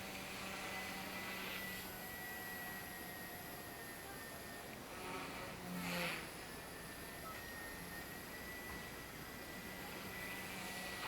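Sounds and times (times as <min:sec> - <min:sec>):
rc helicopter high whine: 0:00.0 - 0:11.0.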